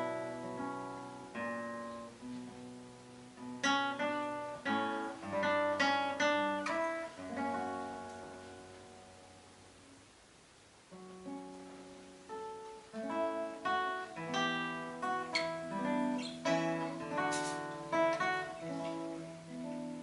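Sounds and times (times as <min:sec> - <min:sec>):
fingerstyle classical guitar: 0:00.0 - 0:10.2, 0:10.8 - 0:20.0.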